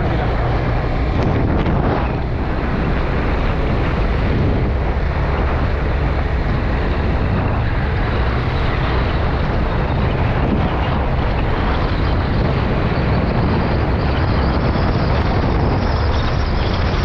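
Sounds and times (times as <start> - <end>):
road noise: 0.0 - 17.0
wind rush on microphone: 0.0 - 17.0.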